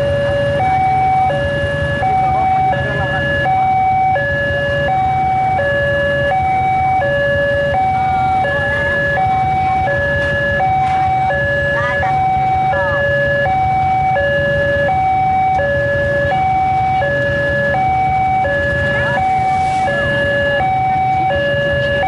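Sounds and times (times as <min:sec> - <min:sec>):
motorcycle engines idling: 0:00.0 - 0:22.0
two-tone level crossing alarm: 0:00.0 - 0:22.0.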